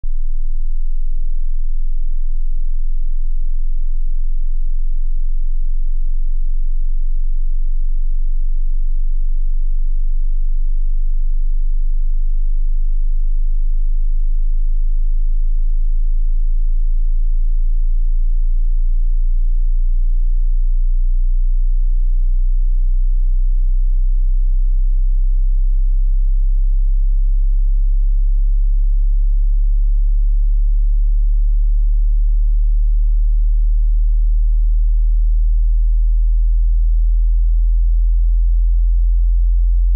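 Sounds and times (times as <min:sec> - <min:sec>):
low pitched sine tone: 0:00.0 - 0:39.9.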